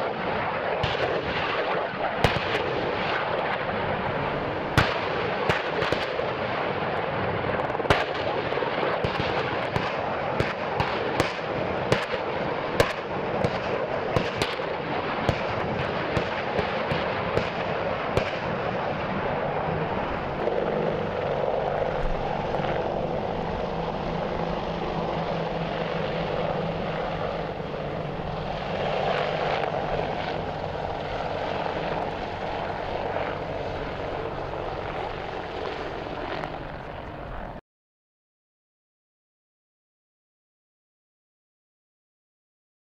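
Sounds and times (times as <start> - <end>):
helicopter rotor and engine: 0.0 - 37.6.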